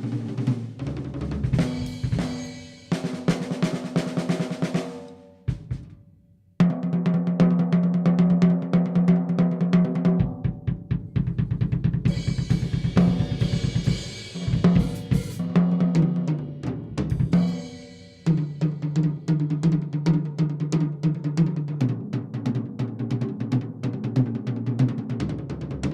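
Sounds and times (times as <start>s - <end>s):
drum kit played in rapid strokes: 0.0s - 6.0s, 6.6s - 25.9s.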